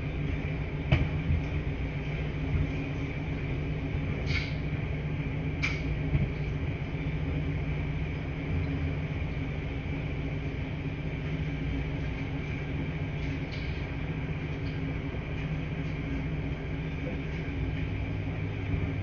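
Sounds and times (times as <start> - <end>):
washing machines humming: 0.0 - 19.0.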